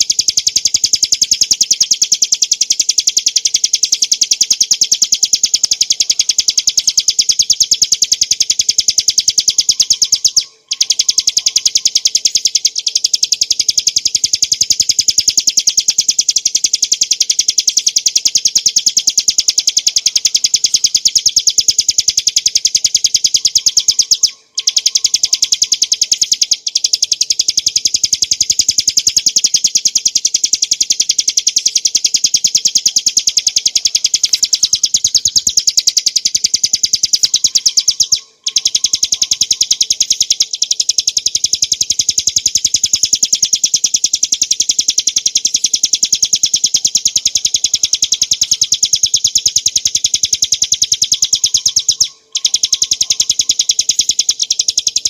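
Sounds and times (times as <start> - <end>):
bird rattling trill: 0.0 - 55.0.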